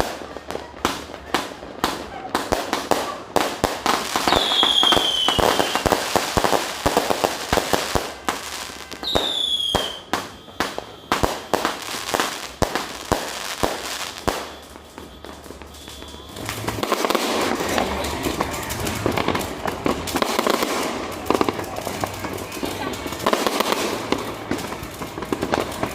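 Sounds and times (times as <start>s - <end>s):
fireworks cracking and banging: 0.0s - 25.9s
whistling firework: 0.0s - 25.9s.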